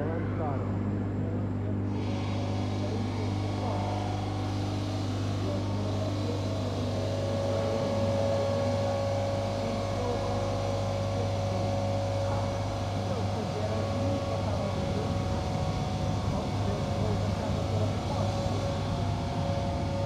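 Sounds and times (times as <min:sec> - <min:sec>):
stone saw machine hum: 0:01.7 - 0:20.0.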